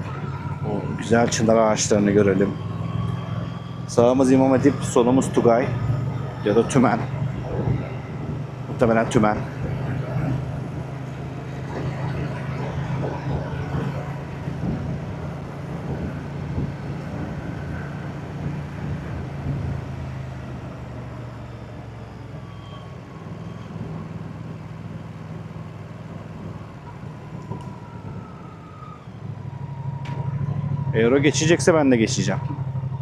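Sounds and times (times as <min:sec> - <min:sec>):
motorcycle engine and exhaust: 0:00.0 - 0:33.0.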